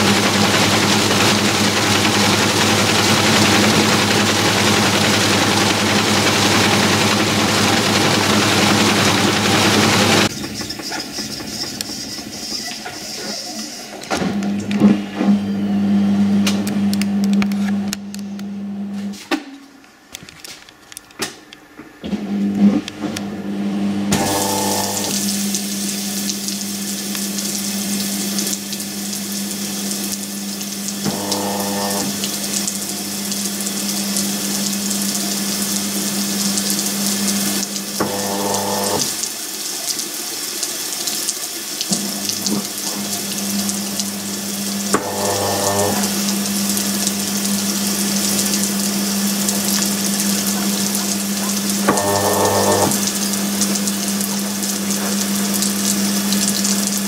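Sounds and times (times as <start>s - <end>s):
water jetting onto spinning tub: 0.0s - 14.1s, 23.8s - 57.0s
washing machine low hum: 0.0s - 19.2s, 22.0s - 39.4s, 41.8s - 57.0s.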